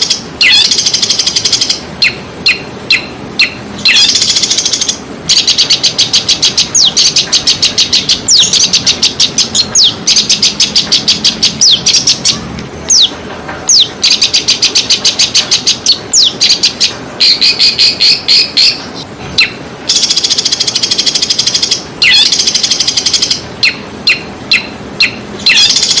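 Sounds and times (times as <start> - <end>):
songbird rattling trills: 0.0 - 26.0.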